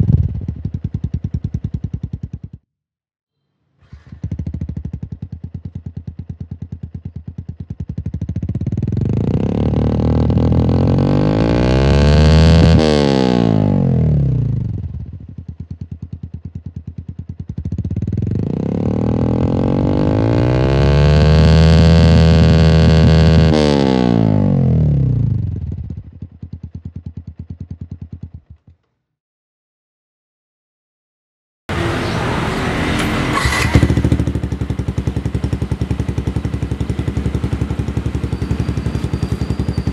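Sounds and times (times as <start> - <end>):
motorcycle engine revving and idling: 0.0 - 2.6, 3.9 - 28.9, 31.7 - 39.9.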